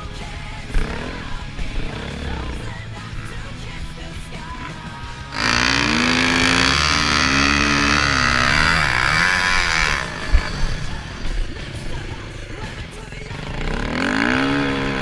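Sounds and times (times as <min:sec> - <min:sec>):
background music: 0:00.0 - 0:15.0
motorcycle engine revving: 0:00.0 - 0:15.0.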